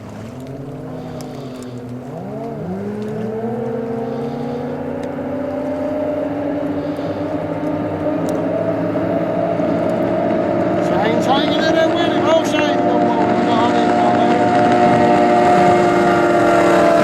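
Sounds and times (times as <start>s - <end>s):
motorboat engines revving: 0.0s - 17.0s.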